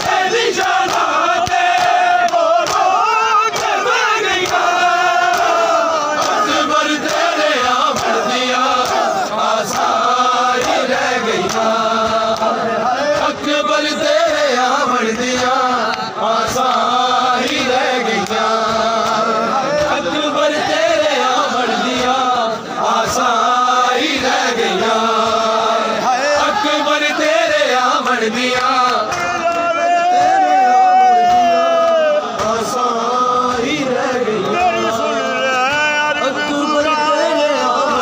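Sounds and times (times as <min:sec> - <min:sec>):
crowd of men chanting: 0:00.0 - 0:38.0.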